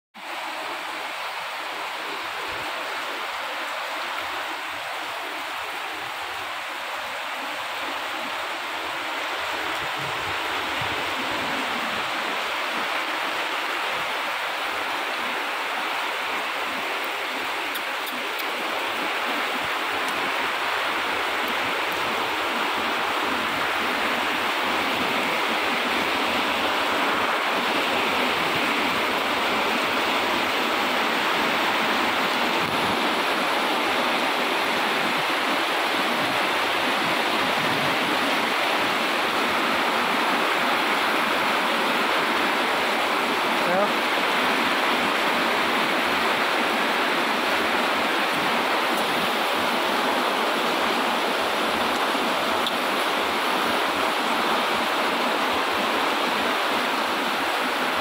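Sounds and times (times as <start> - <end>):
heavy rain falling: 0.2 - 58.0.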